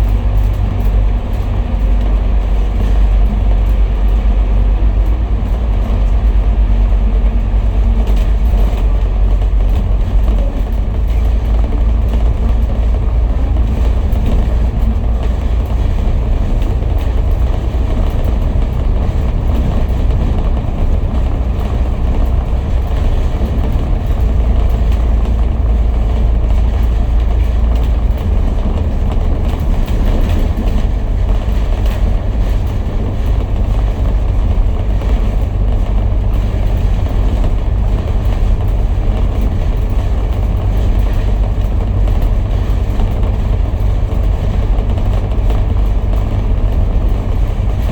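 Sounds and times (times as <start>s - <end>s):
bus engine and tyre rumble: 0.0s - 47.9s.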